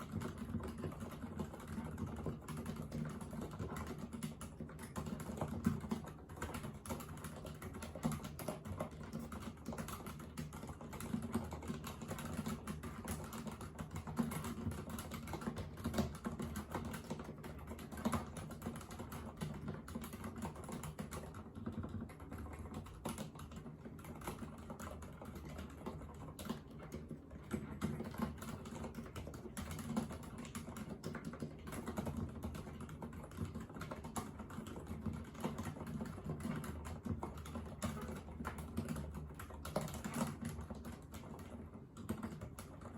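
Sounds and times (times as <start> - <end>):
typing on mechanical keyboard: 0.0 - 42.9.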